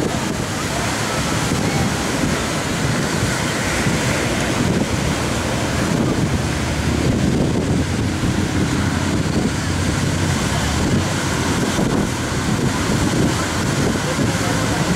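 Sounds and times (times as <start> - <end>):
ocean waves: 0.0 - 14.9
wind on microphone: 0.0 - 14.9.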